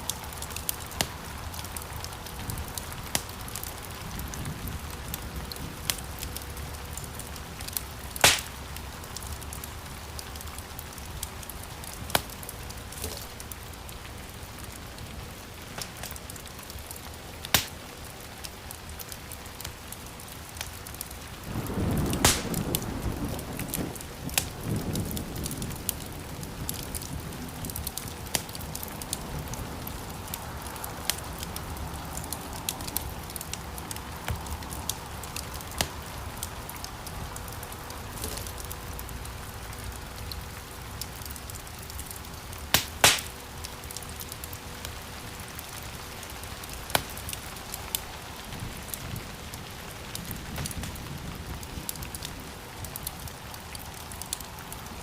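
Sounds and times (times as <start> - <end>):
fire popping: 0.0 - 45.8, 46.6 - 55.0
wood fire hissing and crackling: 0.0 - 55.0.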